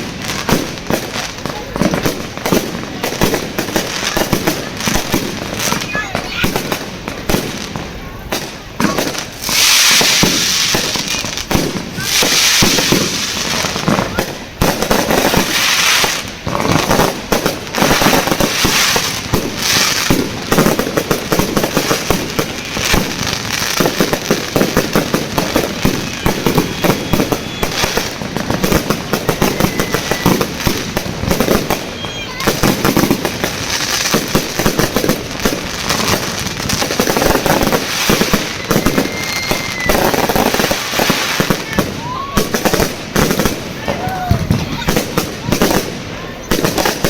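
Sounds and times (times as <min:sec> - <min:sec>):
fireworks cracks and pops: 0:00.0 - 0:47.0
fireworks hissing and crackling: 0:00.0 - 0:47.0.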